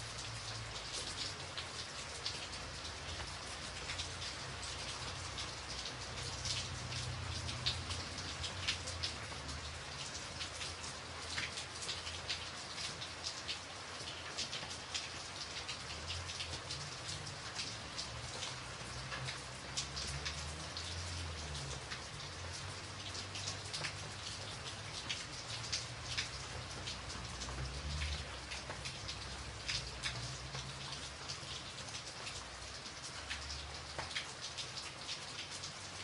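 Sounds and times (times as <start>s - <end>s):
raindrop ticks: 0.0s - 36.0s
steady rain hiss: 0.0s - 36.0s.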